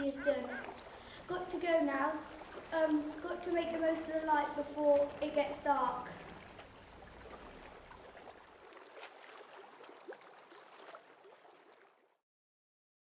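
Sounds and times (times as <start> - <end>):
water lapping and splashing: 0.0 - 12.2.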